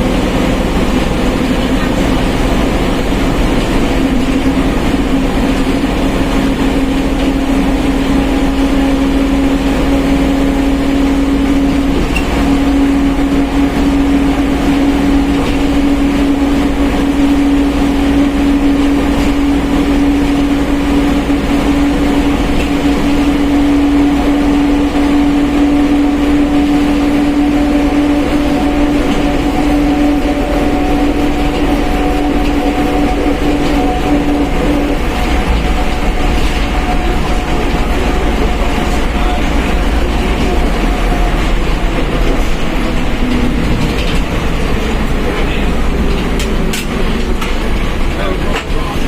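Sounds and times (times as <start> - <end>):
engine and road rumble: 0.0 - 49.0
gear whine: 0.0 - 49.0.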